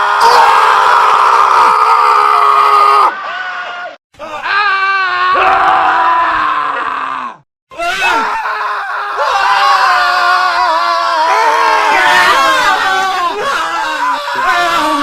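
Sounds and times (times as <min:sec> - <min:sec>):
men screaming: 0:00.0 - 0:15.0.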